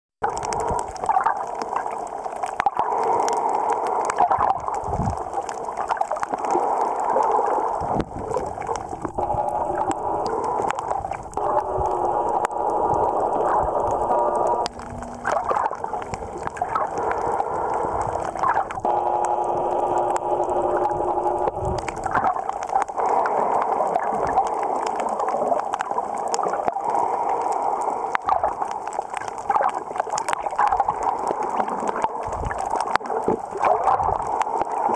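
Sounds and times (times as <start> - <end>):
steady hum: 0.2 - 34.9
water sloshing underwater: 0.2 - 34.9.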